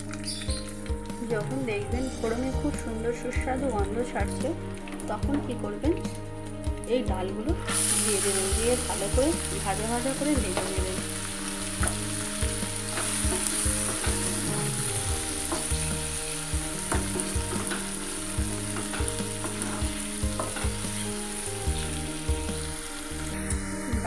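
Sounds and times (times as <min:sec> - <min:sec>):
lentils sizzling in oil: 0:00.0 - 0:24.0.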